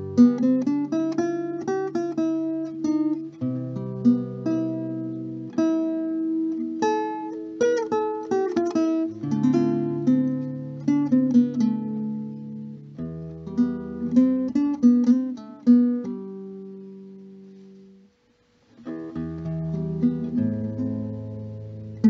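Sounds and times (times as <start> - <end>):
plucked acoustic guitar: 0.0 - 18.1, 18.7 - 22.0.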